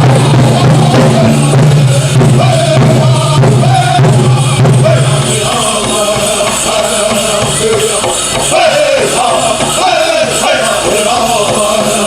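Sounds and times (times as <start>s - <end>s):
group singing a chant: 0.0s - 12.0s
large drum steady beat: 0.0s - 12.0s.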